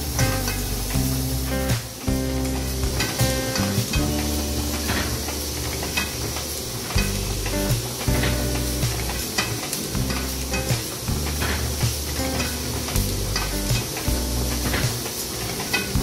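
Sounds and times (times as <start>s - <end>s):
steady mechanical hiss: 0.0s - 16.0s.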